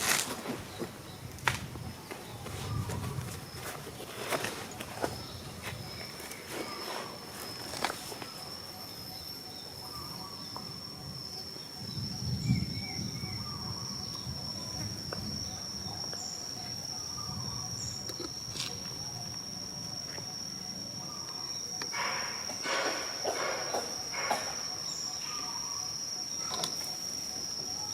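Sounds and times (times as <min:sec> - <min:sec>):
high-pitched insect drone: 0:00.0 - 0:27.9.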